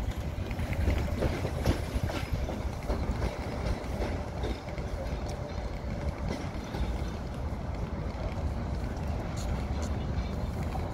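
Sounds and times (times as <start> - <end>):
train low rumble: 0.0 - 10.9
train wheels clicking over joints: 0.0 - 10.9.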